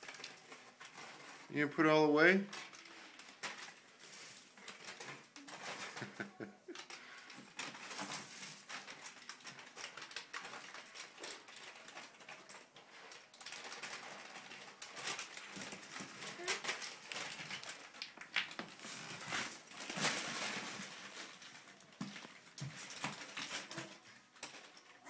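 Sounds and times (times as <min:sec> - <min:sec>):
pet crunching dry cereal: 0:00.0 - 0:25.0
cereal pieces clicking on floor: 0:02.3 - 0:25.0.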